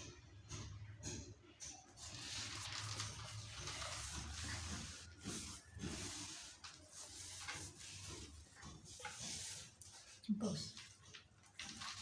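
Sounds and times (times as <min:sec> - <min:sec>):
maize kernels rustling in a tray: 0:02.0 - 0:12.0.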